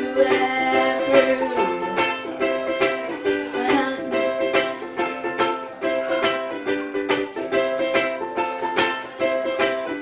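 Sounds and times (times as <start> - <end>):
acoustic string instrument strummed: 0.0 - 10.0.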